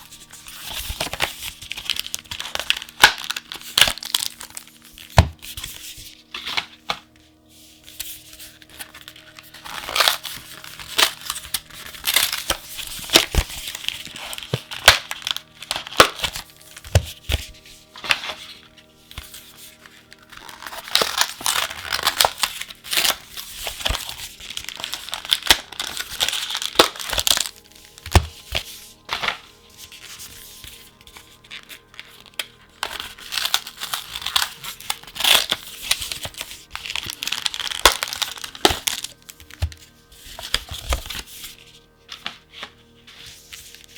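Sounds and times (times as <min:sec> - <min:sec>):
plastic packaging crinkling: 0:00.0 - 0:07.2, 0:07.8 - 0:42.6
faint background music: 0:00.0 - 0:43.9.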